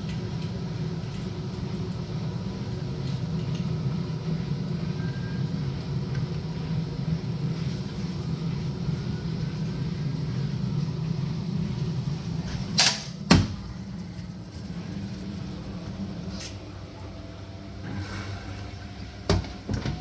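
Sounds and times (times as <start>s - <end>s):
water running through pipes hum: 0.0s - 20.0s.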